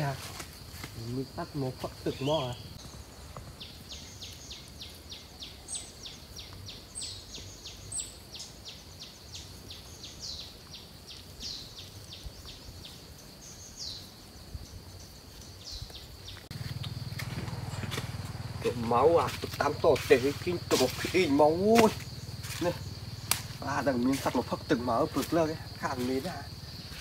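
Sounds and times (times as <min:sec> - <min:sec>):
high insect drone: 0:00.0 - 0:27.0
bird chirps: 0:01.5 - 0:27.0.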